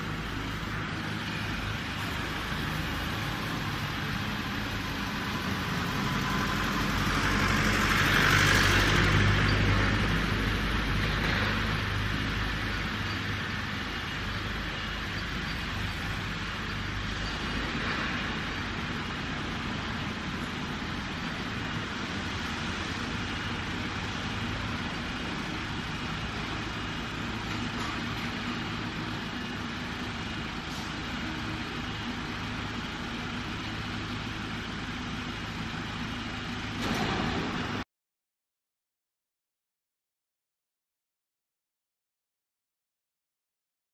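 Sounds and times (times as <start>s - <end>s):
loader engine running: 0.0s - 37.8s.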